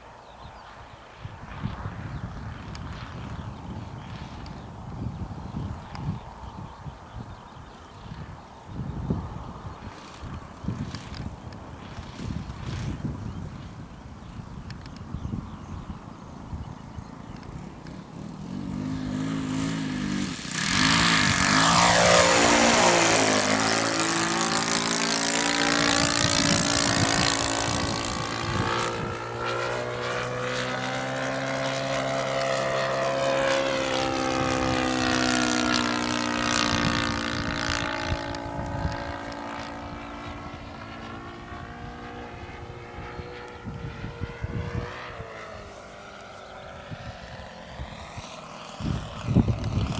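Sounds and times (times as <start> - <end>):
propeller aircraft flying past: 0.0 - 49.9.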